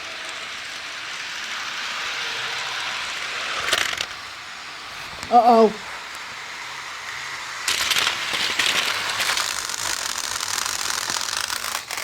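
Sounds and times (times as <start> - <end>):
model train cars clattering: 0.0 - 12.0.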